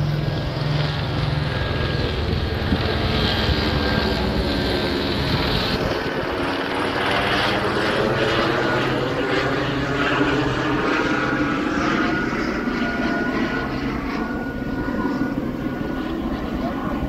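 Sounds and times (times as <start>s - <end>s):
helicopter rotor beating: 0.0s - 17.0s.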